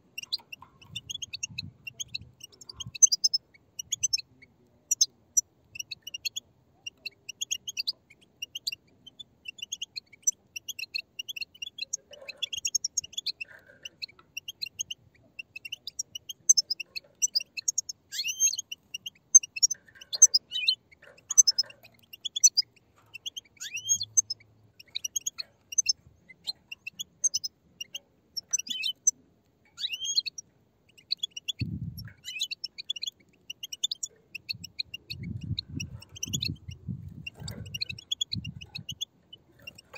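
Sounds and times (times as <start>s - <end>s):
goldfinches chattering: 0.0s - 39.9s.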